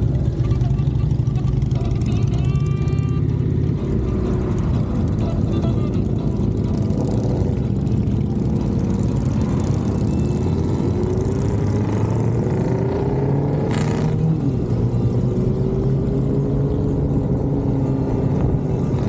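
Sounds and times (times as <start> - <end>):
motorcycle engine accelerating: 0.0 - 19.0
wind and road noise: 0.0 - 19.0.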